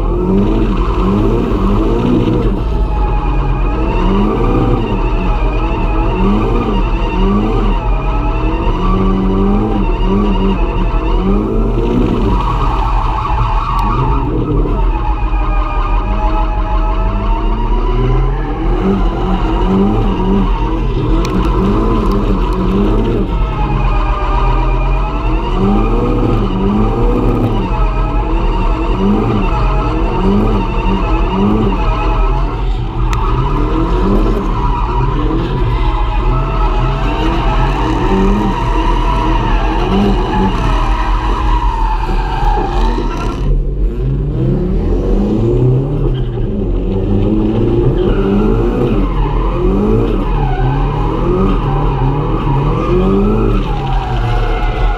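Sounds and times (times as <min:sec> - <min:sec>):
car engine revving: 0:00.0 - 0:54.9
tyres skidding: 0:00.0 - 0:54.9.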